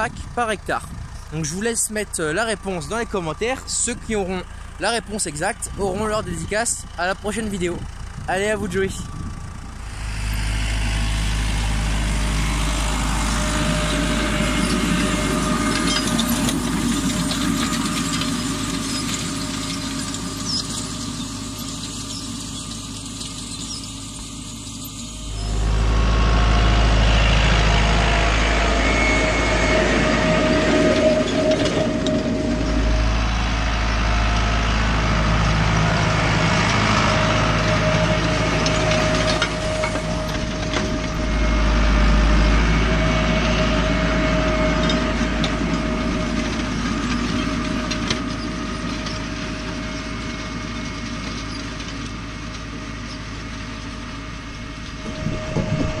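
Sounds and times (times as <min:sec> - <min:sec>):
seed drill whine: 0:00.0 - 0:56.0
tractor engine running: 0:00.0 - 0:56.0.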